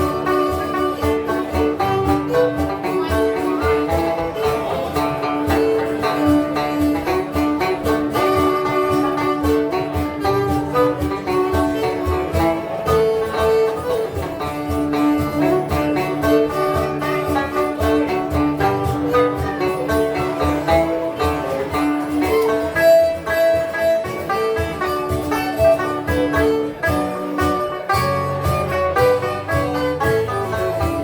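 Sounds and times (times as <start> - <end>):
banjo strumming: 0.0 - 31.0
twelve-string guitar strumming: 0.0 - 31.0.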